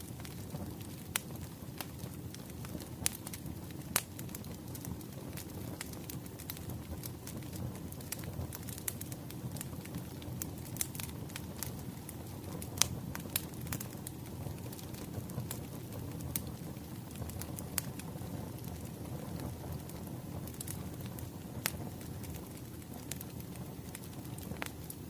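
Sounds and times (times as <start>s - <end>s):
fire popping and snapping: 0.0s - 25.0s
low rumble of flames: 0.0s - 25.0s.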